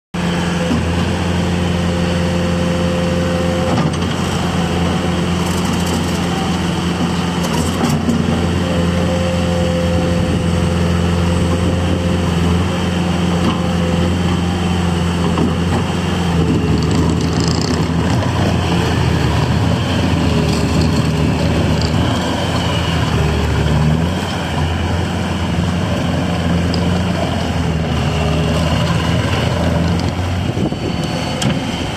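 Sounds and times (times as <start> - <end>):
diesel engine running: 0.2 - 31.9.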